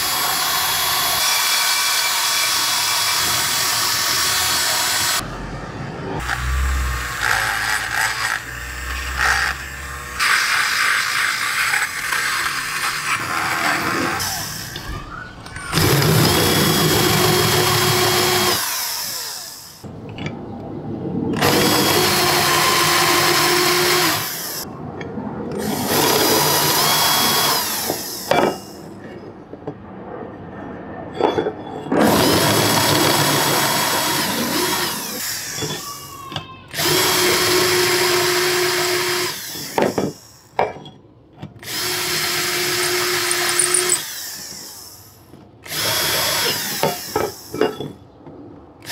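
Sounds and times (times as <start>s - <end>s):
cordless drill grinding metal: 0.0s - 5.2s, 6.2s - 19.8s, 21.4s - 24.6s, 25.6s - 28.9s, 32.0s - 40.6s, 41.6s - 47.9s.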